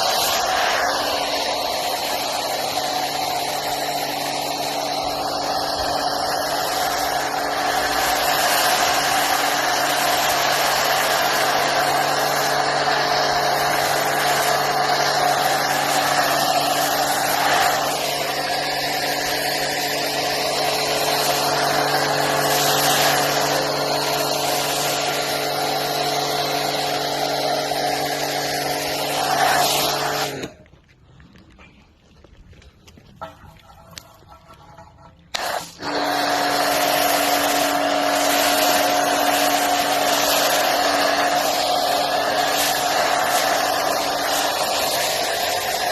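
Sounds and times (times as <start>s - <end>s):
loud hiss: 0.0s - 30.5s, 35.3s - 45.9s
car wash machinery humming: 0.0s - 30.6s, 35.3s - 45.9s.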